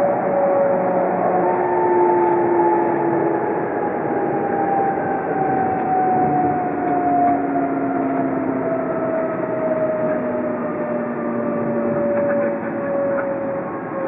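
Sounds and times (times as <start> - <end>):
train rushing rumble: 0.0 - 14.0.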